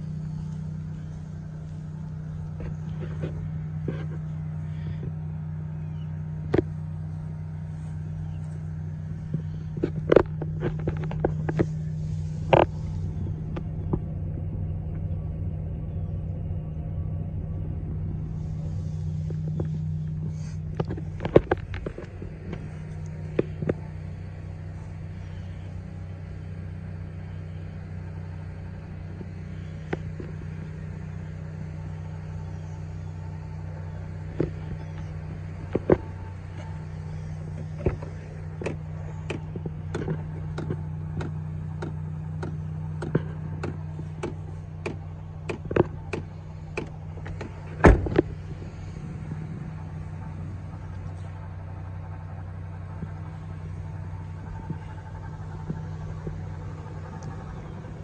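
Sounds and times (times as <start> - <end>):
pickup engine idling: 0.0 - 58.0.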